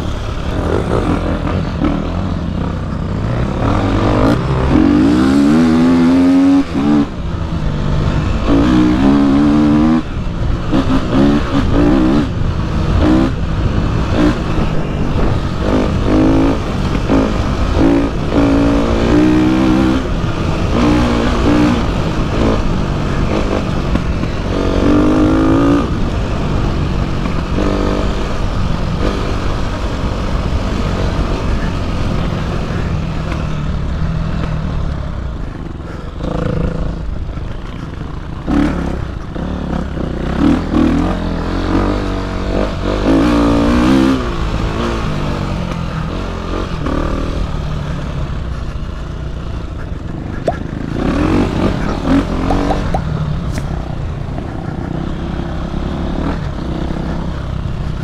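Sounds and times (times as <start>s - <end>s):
dirt bike engine accelerating: 0.0s - 58.0s.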